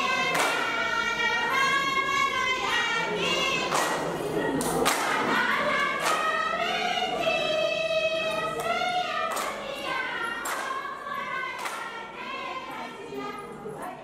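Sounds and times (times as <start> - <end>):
group singing in chorus: 0.0 - 13.4.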